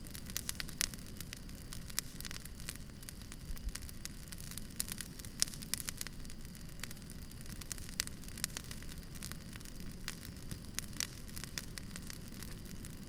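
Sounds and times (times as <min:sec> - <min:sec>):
campfire crackling and popping: 0:00.0 - 0:13.0
low rumble of burning fire: 0:00.0 - 0:13.0.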